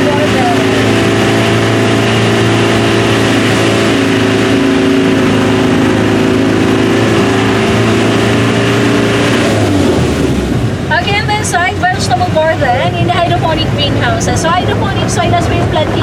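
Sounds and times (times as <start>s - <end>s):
road noise: 0.0s - 16.0s
van engine running: 0.0s - 16.0s.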